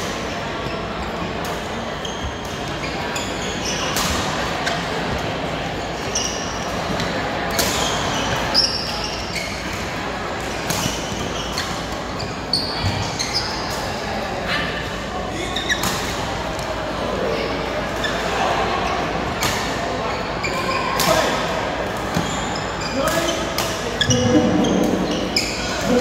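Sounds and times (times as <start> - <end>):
players' voices: 0.0 - 26.0
shoes squeaking on court floor: 0.6 - 14.0, 14.6 - 16.7, 18.0 - 26.0.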